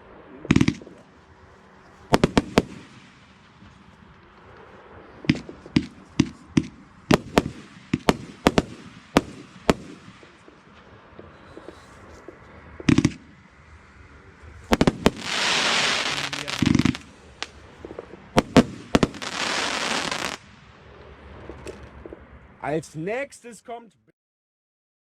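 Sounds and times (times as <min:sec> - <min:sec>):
firework bangs: 0:00.0 - 0:22.4
firework crackling: 0:00.0 - 0:22.4.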